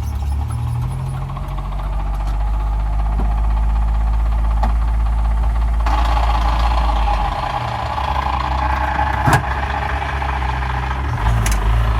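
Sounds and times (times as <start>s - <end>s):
car engine running: 0.0s - 11.9s.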